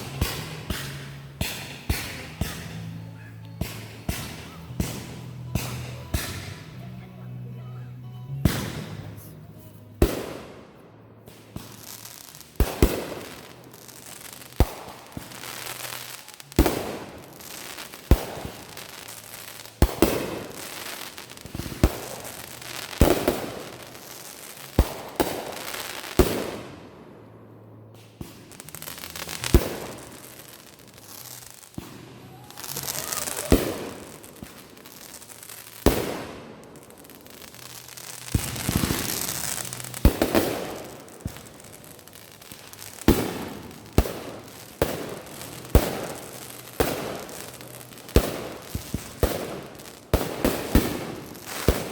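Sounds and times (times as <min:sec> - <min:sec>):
fireworks bangs: 0:00.0 - 0:06.9, 0:10.0 - 0:27.2, 0:27.9 - 0:51.9.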